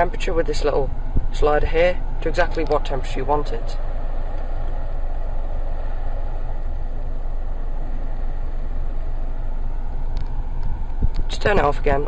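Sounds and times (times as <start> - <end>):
air-conditioning fan blowing: 0.0 - 12.0
car engine idling: 0.0 - 12.0.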